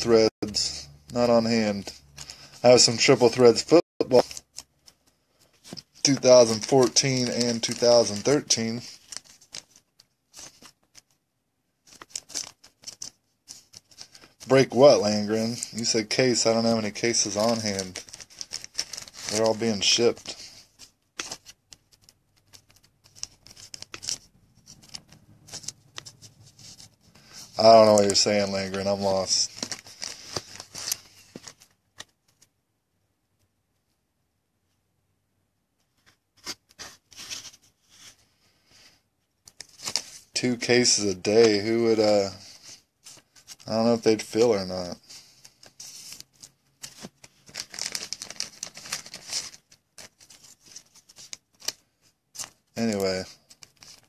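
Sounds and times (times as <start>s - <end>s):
trading cards being handled: 0.0s - 11.2s, 11.8s - 32.6s, 35.8s - 38.3s, 39.4s - 54.0s.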